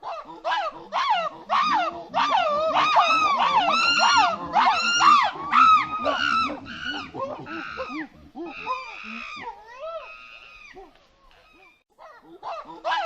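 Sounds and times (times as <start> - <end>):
monkey screaming: 0.0 - 13.0.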